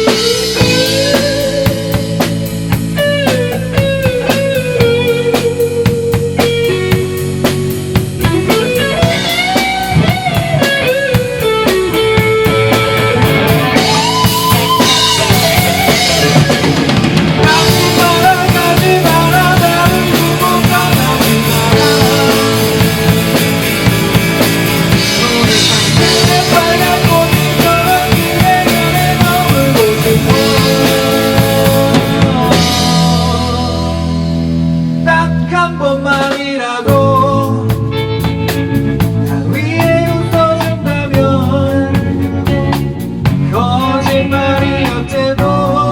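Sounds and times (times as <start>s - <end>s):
electric guitar lead with bends: 0.0s - 36.0s, 36.9s - 45.9s
bass guitar: 0.0s - 45.9s
drum kit: 0.0s - 45.9s.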